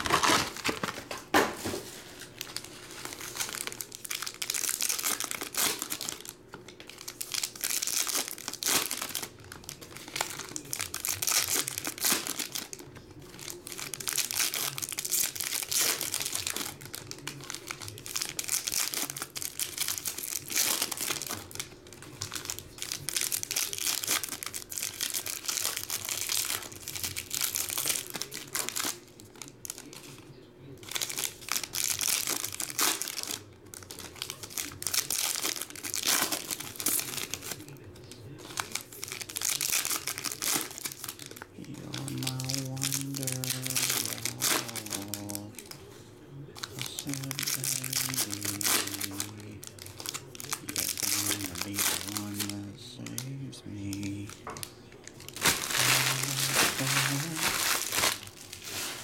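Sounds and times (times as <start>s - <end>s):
foil wrappers tearing and crinkling: 0.0s - 45.9s, 46.6s - 59.0s.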